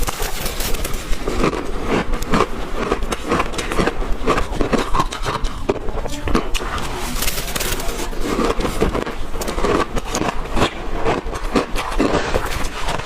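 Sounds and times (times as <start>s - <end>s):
ice being chewed: 0.0s - 13.0s.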